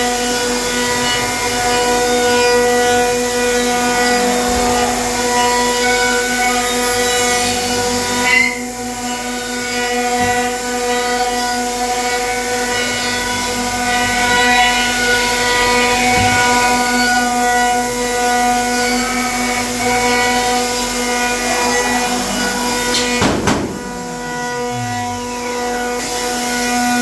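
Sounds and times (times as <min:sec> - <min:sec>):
hiss of wood cutting: 0:00.0 - 0:27.0
router spindle whine: 0:00.0 - 0:27.0.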